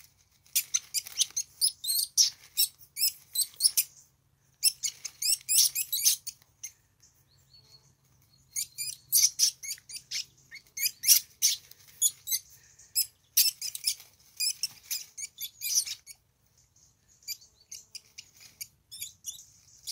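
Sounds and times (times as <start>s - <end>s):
weasels squeaking and chittering: 0.0s - 19.9s.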